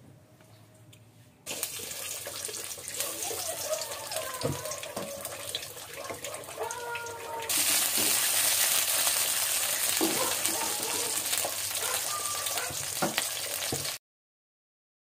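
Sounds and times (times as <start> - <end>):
garlic sizzling in oil: 1.5 - 14.0.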